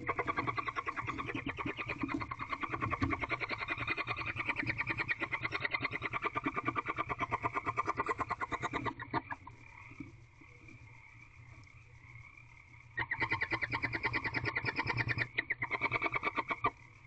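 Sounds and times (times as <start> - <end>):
frog trilling: 0.0 - 10.0, 13.0 - 16.8.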